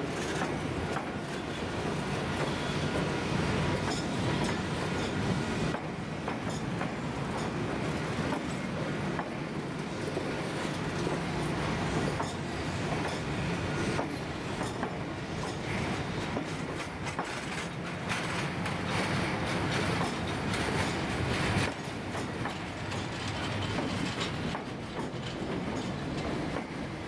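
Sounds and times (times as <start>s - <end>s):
train wheels clicking on rails: 0.0s - 27.0s.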